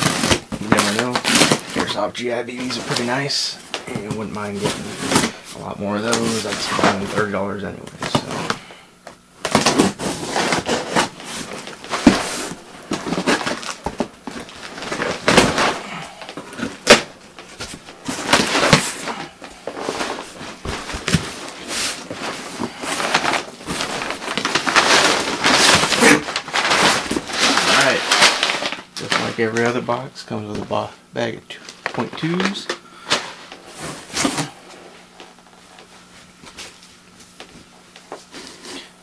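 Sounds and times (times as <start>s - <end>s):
cardboard and plastic rustling: 0.0s - 30.9s, 31.5s - 38.8s.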